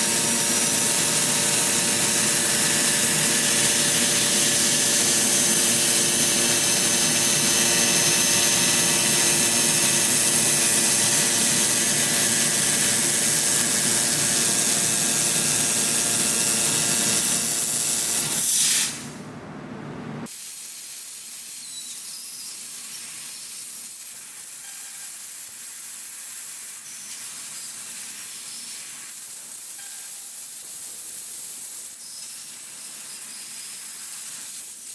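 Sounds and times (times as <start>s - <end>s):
laser cutter gas hiss: 0.0s - 19.2s, 20.3s - 34.9s.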